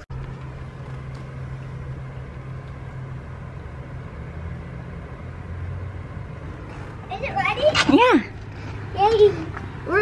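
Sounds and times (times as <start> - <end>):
car engine idling: 0.0 - 10.0
light outdoor noise: 0.0 - 10.0.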